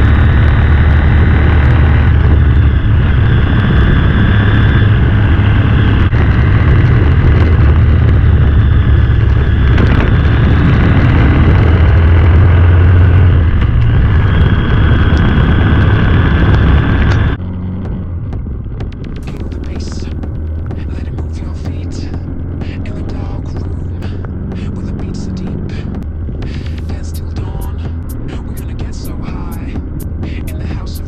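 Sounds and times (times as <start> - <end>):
motorcycle engine running: 0.0 - 31.0
wind noise on microphone: 0.0 - 31.0.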